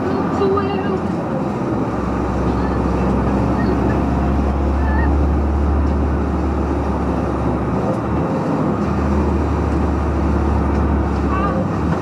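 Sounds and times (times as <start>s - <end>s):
road noise: 0.0s - 12.0s
truck diesel engine drone: 0.0s - 12.0s.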